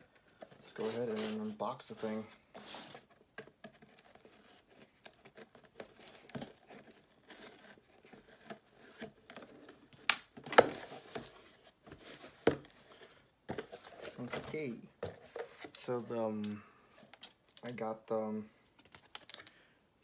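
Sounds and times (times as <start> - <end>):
cardboard rustling and scraping: 0.0 - 16.4.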